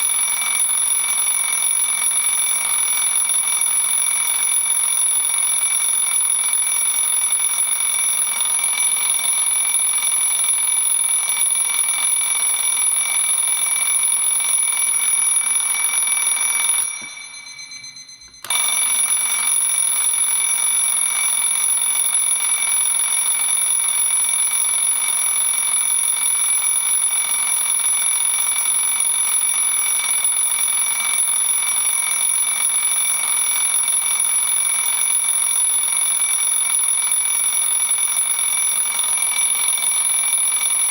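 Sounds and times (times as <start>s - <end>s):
alarm clock bells ringing: 0.0s - 40.9s.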